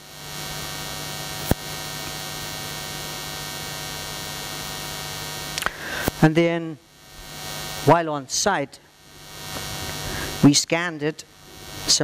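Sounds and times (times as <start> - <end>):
electrical mains hum: 0.0 - 12.0
sound system hiss: 0.0 - 12.0.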